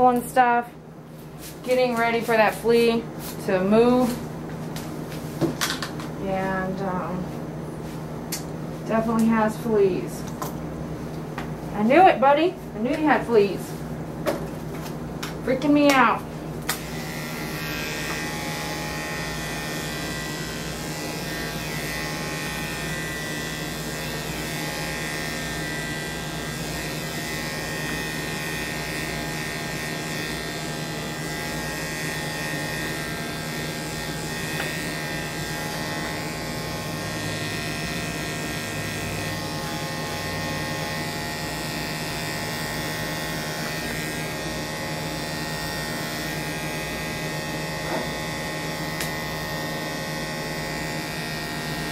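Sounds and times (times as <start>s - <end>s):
electric clippers buzzing: 1.4s - 51.9s.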